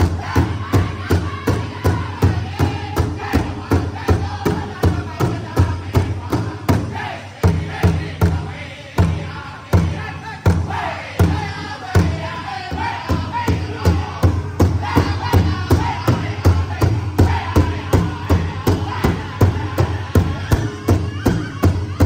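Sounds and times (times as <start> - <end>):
group singing in unison: 0.0 - 22.0
large drum beating: 0.0 - 22.0.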